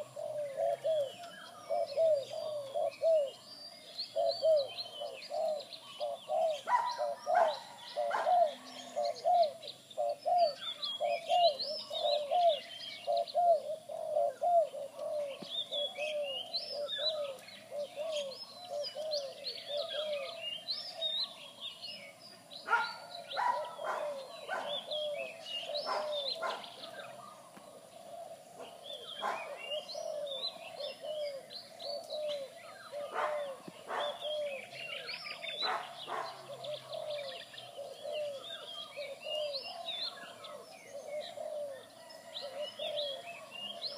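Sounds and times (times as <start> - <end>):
doves cooing: 0.0 - 43.9
small birds chirping: 0.0 - 43.9.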